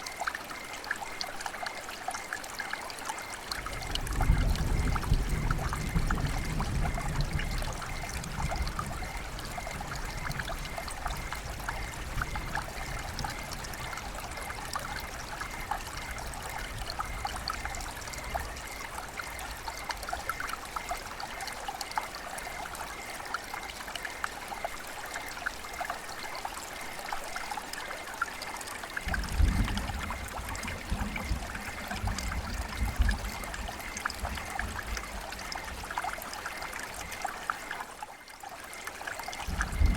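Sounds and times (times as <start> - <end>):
river water flowing: 0.0 - 5.3, 7.4 - 39.9.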